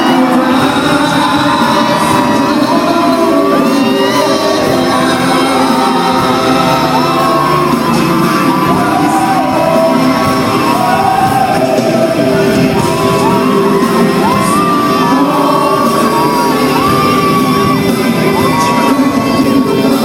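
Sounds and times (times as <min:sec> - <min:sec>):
amplified pop music with singing: 0:00.0 - 0:20.0
crowd screaming and cheering: 0:00.0 - 0:20.0.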